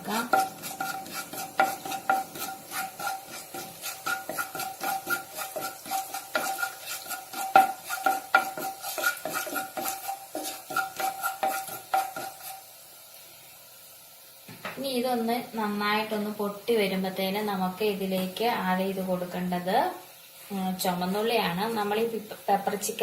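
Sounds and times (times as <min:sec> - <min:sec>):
light sizzle of oil: 0:00.0 - 0:23.0.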